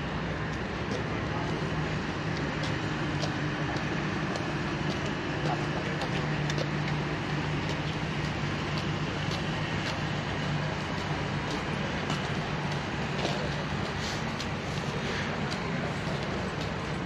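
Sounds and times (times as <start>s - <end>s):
city traffic drone: 0.0s - 17.0s
footsteps clicking on path: 0.4s - 17.0s.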